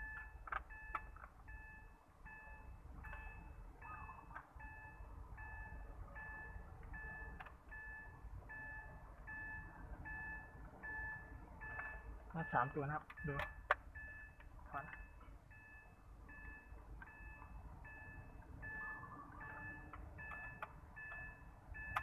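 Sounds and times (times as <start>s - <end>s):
car warning chime beeping: 0.0s - 22.0s.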